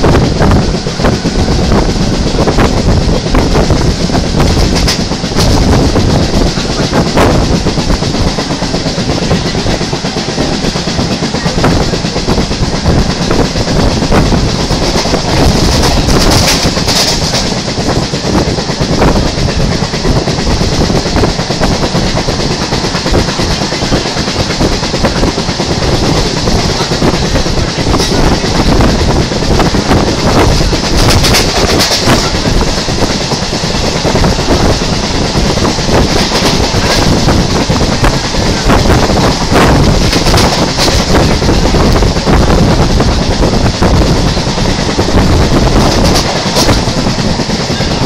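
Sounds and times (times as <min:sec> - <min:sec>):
rail clatter: 0:00.0 - 0:48.0
train bogie thudding: 0:00.0 - 0:48.0.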